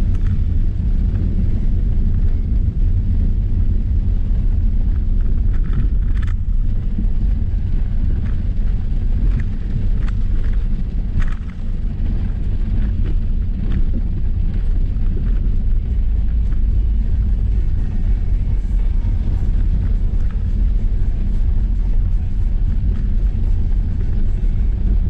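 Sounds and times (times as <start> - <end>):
car driving on rough dirt track: 0.0 - 25.0.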